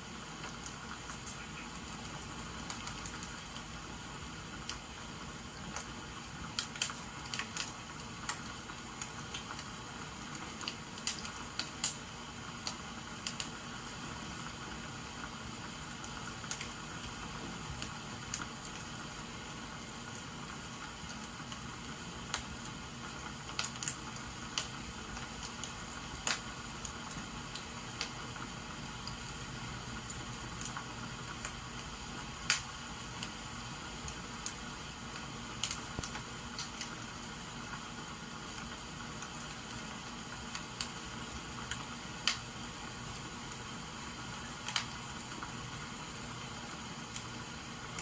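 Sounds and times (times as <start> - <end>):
rain hissing: 0.0 - 48.0
wood fire crackling and popping: 0.0 - 48.0.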